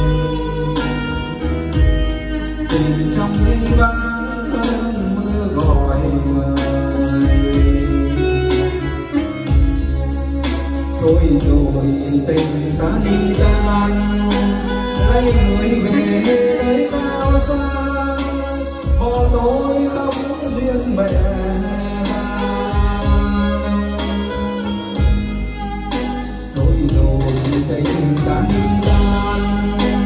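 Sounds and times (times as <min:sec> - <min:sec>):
karaoke song over loudspeakers: 0:00.0 - 0:30.0.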